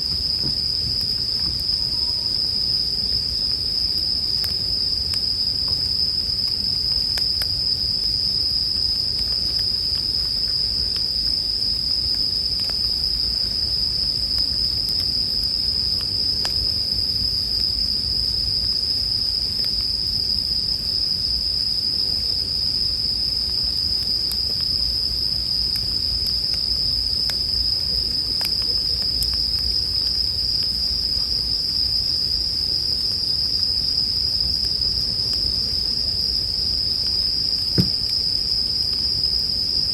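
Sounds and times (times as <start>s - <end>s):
campfire crackling: 0.0s - 39.8s
crickets chirping: 0.0s - 39.9s.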